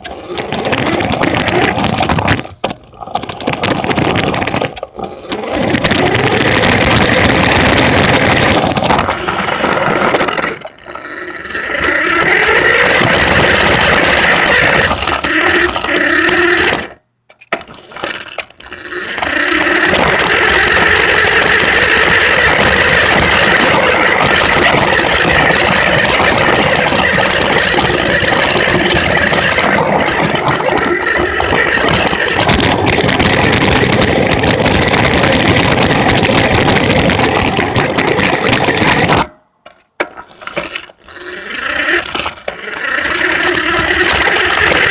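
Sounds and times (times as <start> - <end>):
radio-controlled truck motor: 5.3 - 17.0, 17.6 - 39.2, 40.4 - 44.9.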